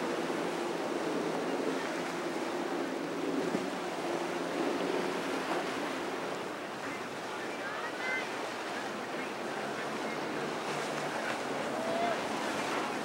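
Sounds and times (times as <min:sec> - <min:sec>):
outboard motors humming: 0:00.0 - 0:13.0.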